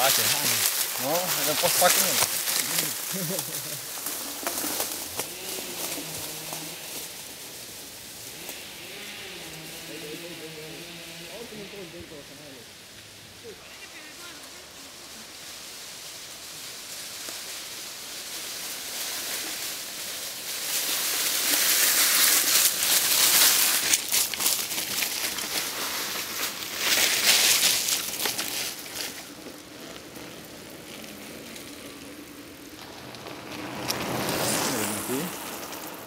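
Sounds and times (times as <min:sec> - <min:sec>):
bike tyres crunching through dry leaves: 0:00.0 - 0:36.0.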